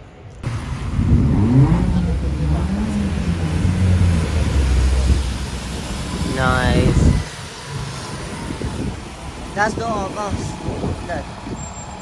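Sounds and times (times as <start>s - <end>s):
diesel bus engine accelerating: 0.4s - 12.0s.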